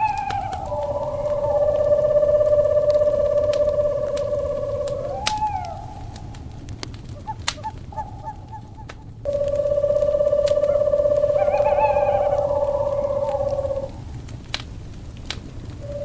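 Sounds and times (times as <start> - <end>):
owl hooting: 0.0 - 14.2, 15.8 - 16.0
fire crackling: 0.0 - 16.0.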